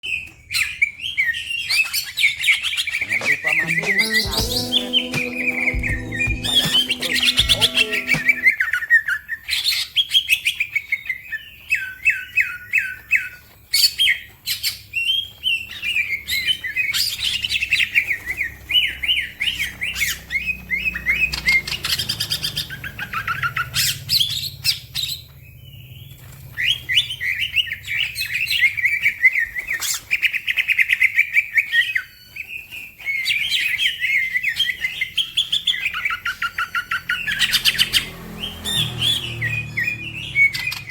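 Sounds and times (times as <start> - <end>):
bird singing warbled song: 0.0 - 8.6, 9.4 - 40.9.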